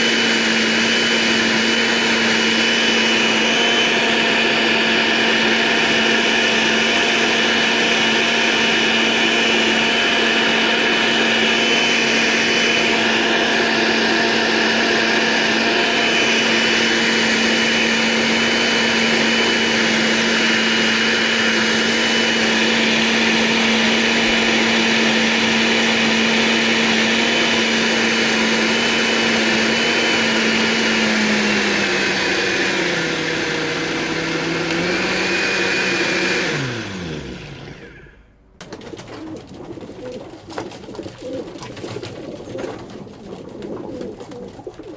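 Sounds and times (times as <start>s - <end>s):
electric motor whining: 0.0s - 38.3s.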